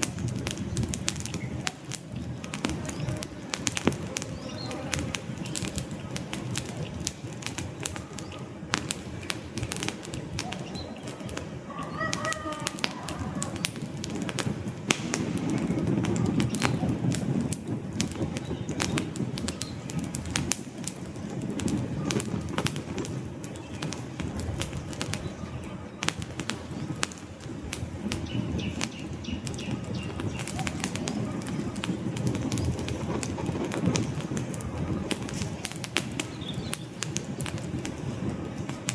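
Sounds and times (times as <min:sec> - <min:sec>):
low rush of flames: 0:00.0 - 0:38.9
wood fire crackling: 0:00.0 - 0:38.9.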